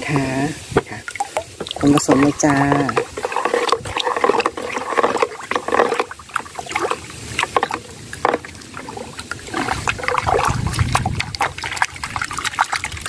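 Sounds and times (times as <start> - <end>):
water swishing and splashing: 0.0 - 13.0.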